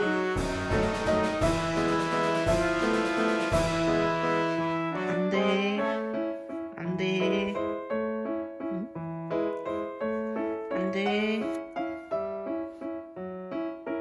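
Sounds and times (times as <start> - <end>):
light melodic tune: 0.0 - 14.0.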